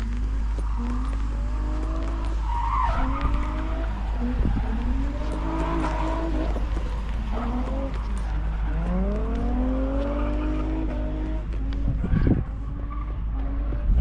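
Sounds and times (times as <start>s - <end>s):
motocross bike engines revving: 0.0s - 12.5s
steady low rumble: 0.0s - 12.8s.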